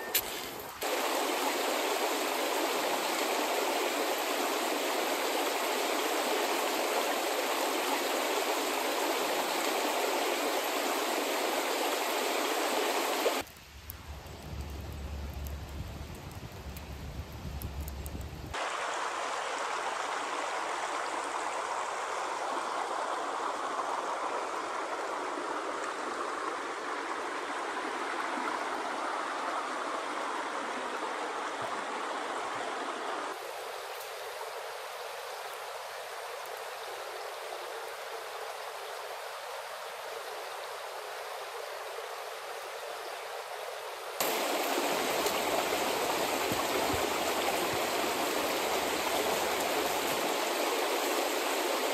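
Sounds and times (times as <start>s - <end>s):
creek water flowing over rocks: 0.0s - 14.5s, 18.5s - 51.9s.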